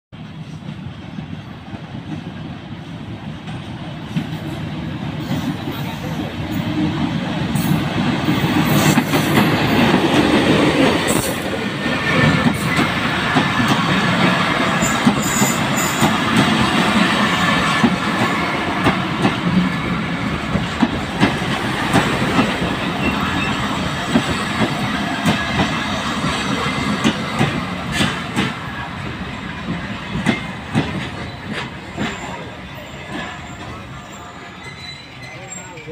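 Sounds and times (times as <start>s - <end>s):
diesel locomotive passing: 0.2s - 35.9s.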